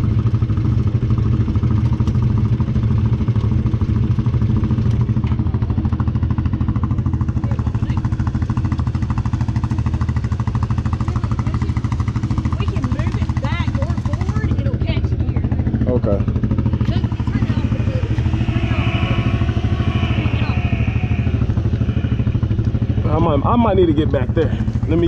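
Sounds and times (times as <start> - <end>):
engine running at low speed: 0.0 - 25.0.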